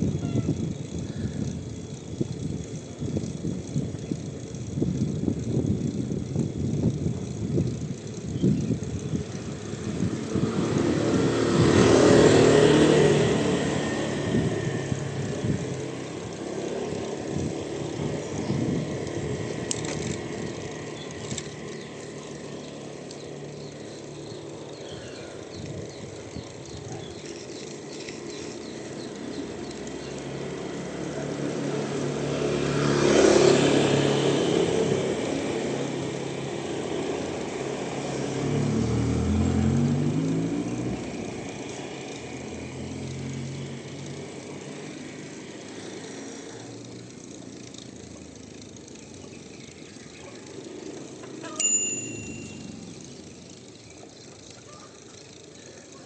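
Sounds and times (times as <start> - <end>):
road and wind noise: 0.0 - 56.0
vehicles passing close by: 0.0 - 56.0.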